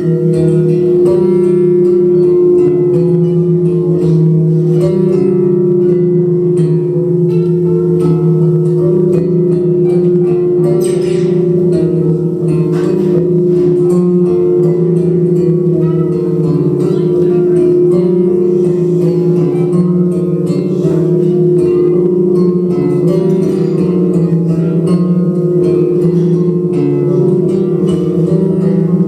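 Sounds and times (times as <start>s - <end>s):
live droning music: 0.0s - 29.0s.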